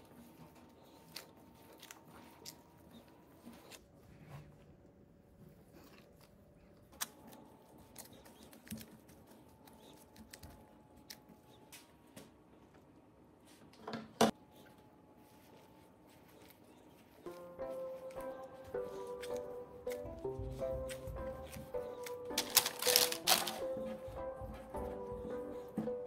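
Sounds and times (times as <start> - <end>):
dough squishing and rustling: 0.0 - 12.4, 14.3 - 26.0.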